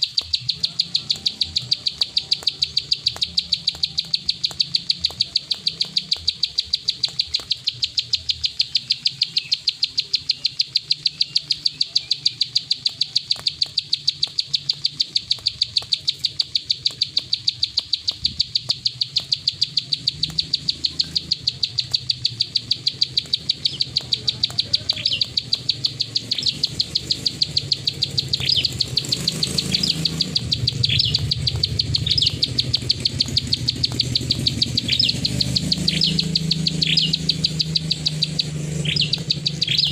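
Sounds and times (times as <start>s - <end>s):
bird rapid clicking call: 0.0s - 39.9s
short bird chirps: 0.0s - 39.9s.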